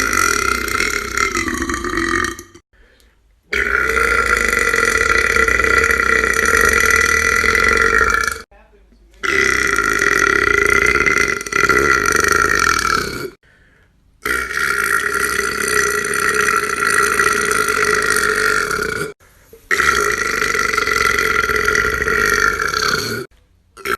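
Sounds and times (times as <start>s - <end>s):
person burping loudly: 0.0s - 2.6s, 3.5s - 8.5s, 9.2s - 13.4s, 14.2s - 23.9s.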